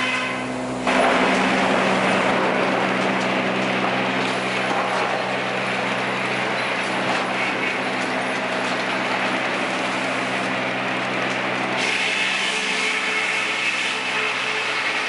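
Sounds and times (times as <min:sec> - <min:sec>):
motor humming: 0:00.4 - 0:15.0.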